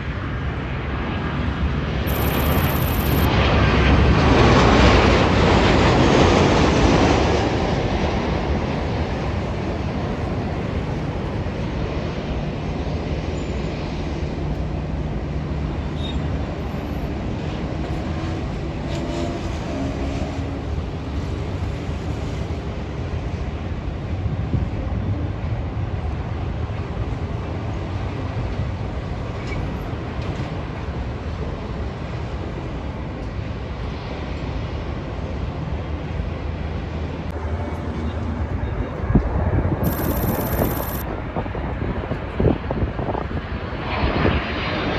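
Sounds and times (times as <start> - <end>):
jet airliner engines rumbling: 0.0 - 44.9.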